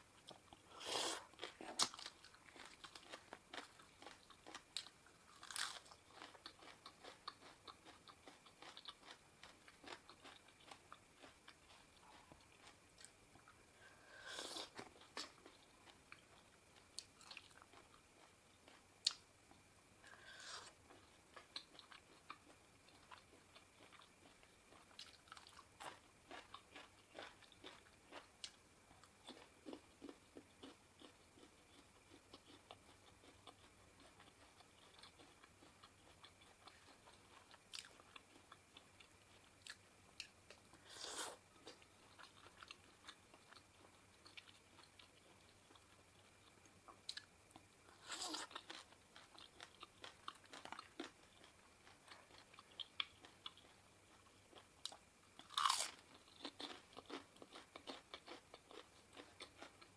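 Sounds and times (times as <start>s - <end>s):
person chewing and crunching food: 0.1s - 59.9s.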